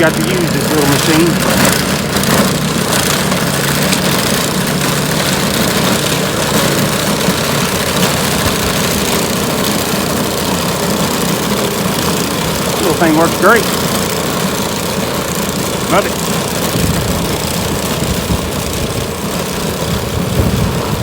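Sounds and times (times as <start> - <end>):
ice-clearing machine engine hum: 0.0 - 21.0.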